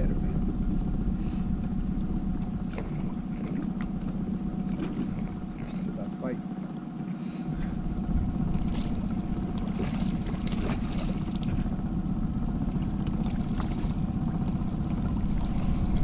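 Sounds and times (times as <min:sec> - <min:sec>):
faint water splashes: 0:00.0 - 0:16.0
outboard motor running: 0:00.0 - 0:16.0.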